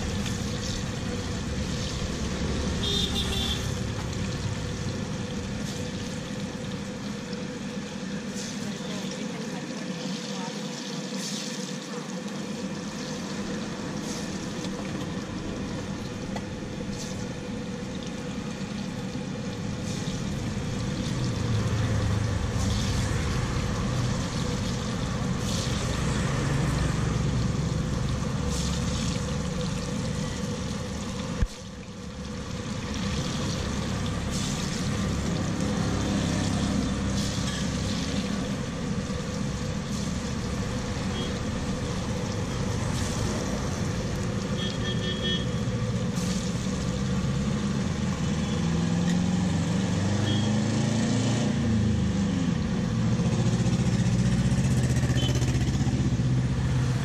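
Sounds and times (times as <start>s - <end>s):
oil sizzling while deep-frying: 0.0s - 57.0s.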